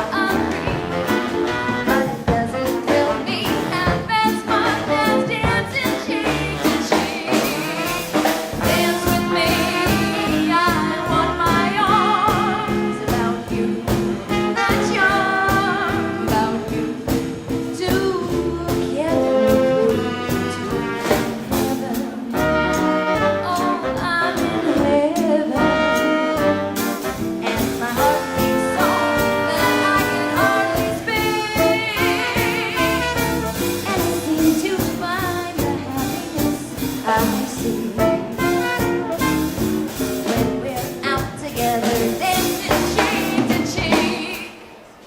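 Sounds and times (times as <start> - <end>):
swing band playing dance music: 0.0 - 45.0.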